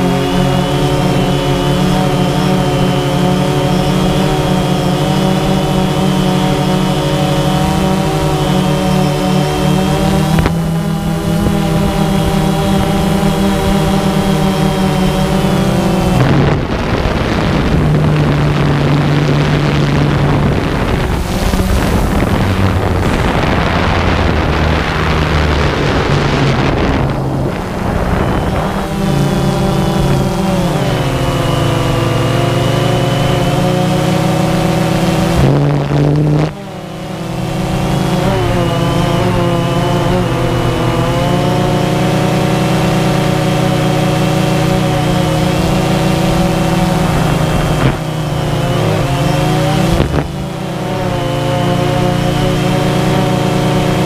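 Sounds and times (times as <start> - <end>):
drone motors whining: 0.0 - 54.0
wind noise: 0.0 - 54.0.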